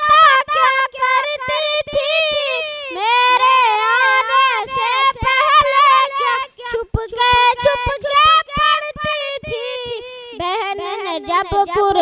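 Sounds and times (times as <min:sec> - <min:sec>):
boy singing solo: 0:00.0 - 0:12.0.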